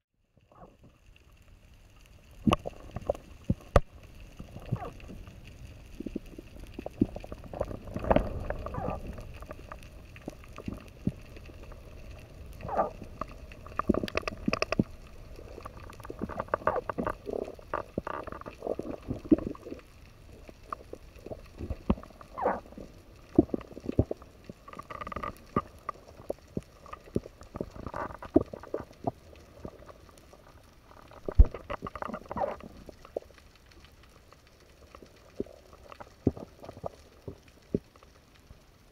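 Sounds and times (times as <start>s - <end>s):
underwater clicks and gurgles: 0.2s - 38.9s
underwater low rumbling: 0.2s - 38.9s.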